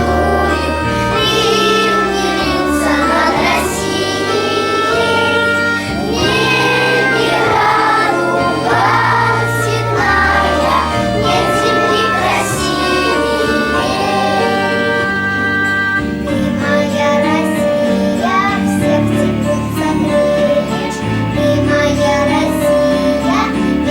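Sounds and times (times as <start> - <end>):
children's choir singing: 0.0 - 23.9
instrumental accompaniment: 0.0 - 23.9.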